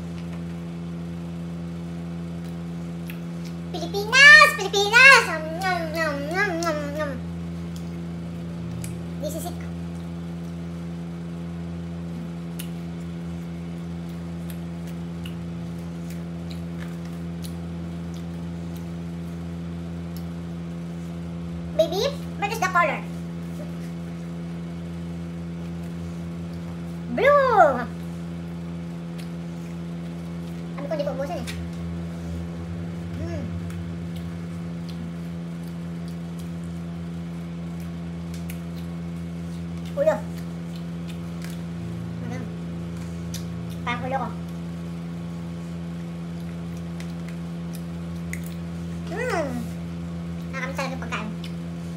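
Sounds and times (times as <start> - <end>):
appliance humming: 0.0 - 51.9.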